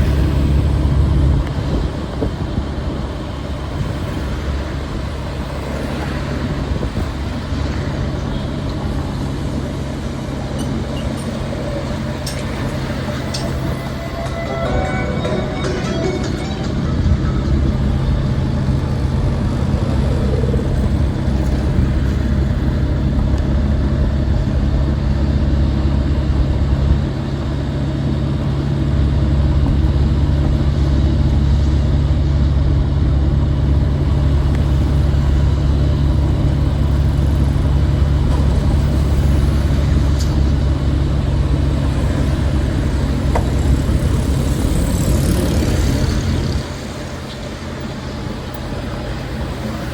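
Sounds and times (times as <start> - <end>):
traffic engine rumble: 0.0 - 49.9.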